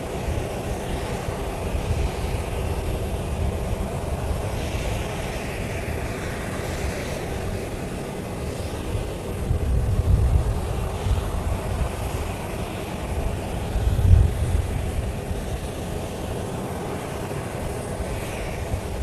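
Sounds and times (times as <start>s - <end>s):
jet engines rumbling and hissing: 0.0s - 19.0s.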